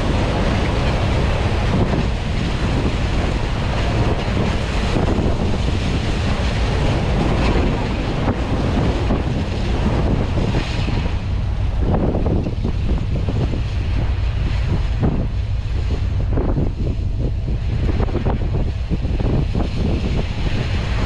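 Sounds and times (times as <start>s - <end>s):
water rushing past hull: 0.0s - 21.0s
wind buffeting microphone: 0.0s - 21.0s.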